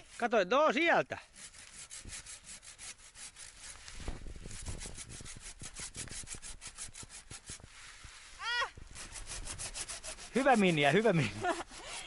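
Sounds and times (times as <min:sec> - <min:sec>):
hand saw cutting wood: 0:01.2 - 0:12.0.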